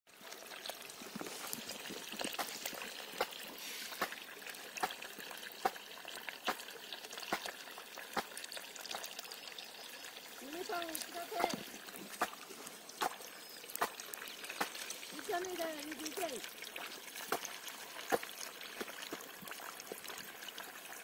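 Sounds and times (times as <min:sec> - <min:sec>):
water pouring over ground: 0:00.1 - 0:21.0
regular water splashing pulse: 0:00.9 - 0:20.2.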